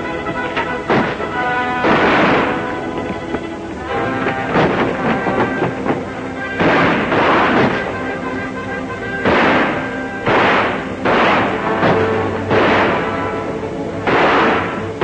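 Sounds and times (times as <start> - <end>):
gunshots with ringing tail: 0.0 - 3.1, 3.9 - 15.0
film music: 0.0 - 15.0.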